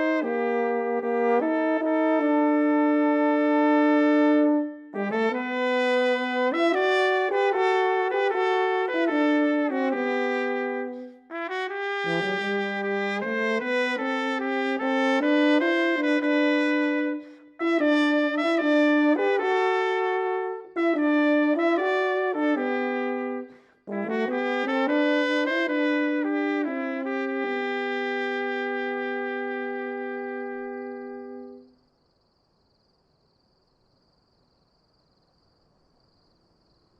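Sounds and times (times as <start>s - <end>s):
trumpet and euphonium duet: 0.0s - 31.7s.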